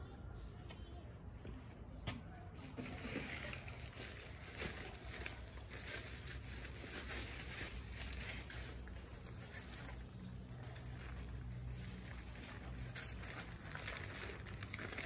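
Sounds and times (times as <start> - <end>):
plastic bag rustling and crinkling: 2.6 - 15.0.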